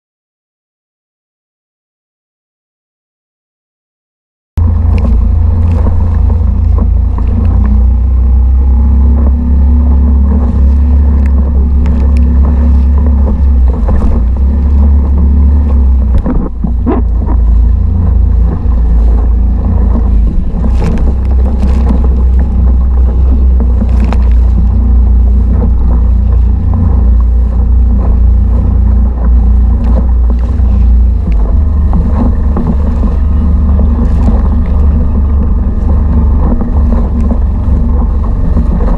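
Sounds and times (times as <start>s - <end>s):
outboard motor running: 4.6s - 38.9s.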